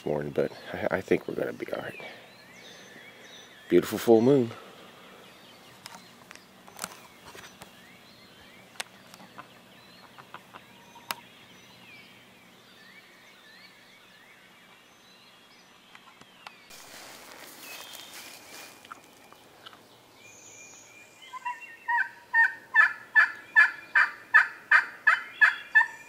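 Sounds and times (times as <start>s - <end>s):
low outdoor hiss: 0.0s - 26.0s
small birds chirping: 0.0s - 26.0s.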